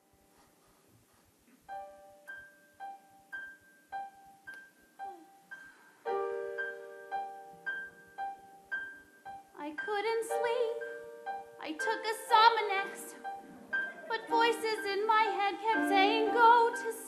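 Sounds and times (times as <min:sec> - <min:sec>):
piano playing: 0:01.7 - 0:17.0.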